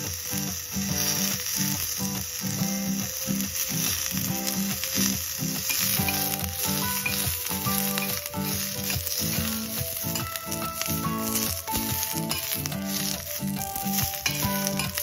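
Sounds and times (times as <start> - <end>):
background music: 0.0 - 15.0
chillies sizzling on a pan: 0.0 - 15.0
metal spatula turning food: 0.0 - 15.0.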